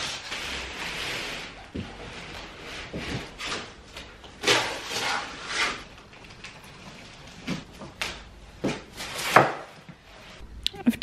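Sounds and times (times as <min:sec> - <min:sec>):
cardboard packaging rustling and scraping: 0:00.0 - 0:10.5.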